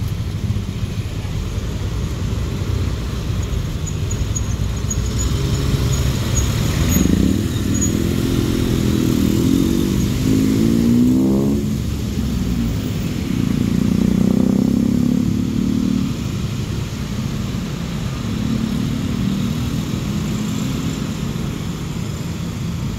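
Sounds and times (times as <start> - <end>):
motor scooters and cars passing: 0.0 - 22.9
tyre and road noise: 0.0 - 22.9.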